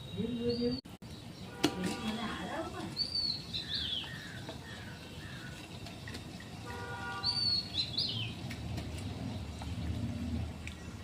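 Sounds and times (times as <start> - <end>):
bird chirping: 0.0 - 6.1, 7.0 - 11.0.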